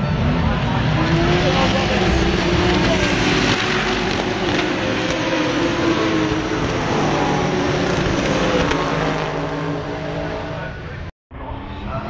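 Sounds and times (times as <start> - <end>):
race cars passing at speed: 0.0 - 12.0.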